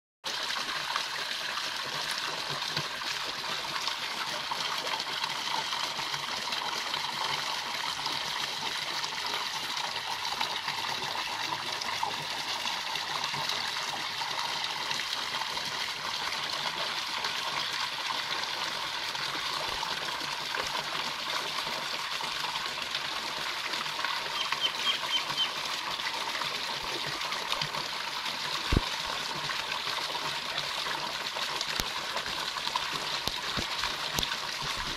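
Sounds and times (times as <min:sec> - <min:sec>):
water splashing in a pool: 0:00.2 - 0:34.9.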